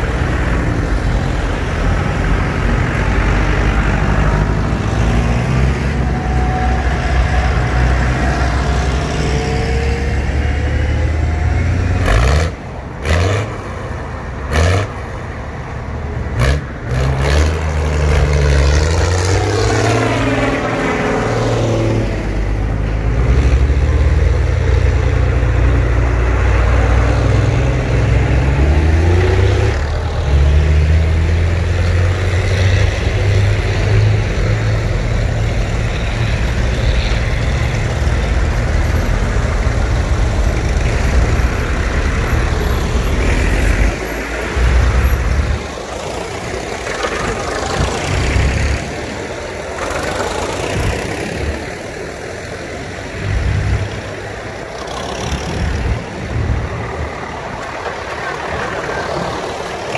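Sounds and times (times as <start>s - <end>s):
tractors driving past: 0.0s - 59.9s.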